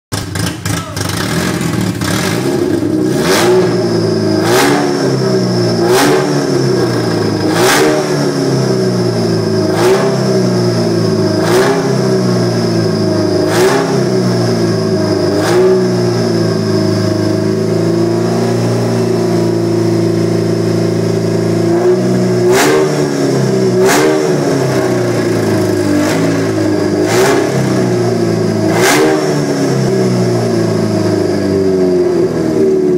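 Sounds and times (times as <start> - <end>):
car engine revving: 0.2 - 32.9.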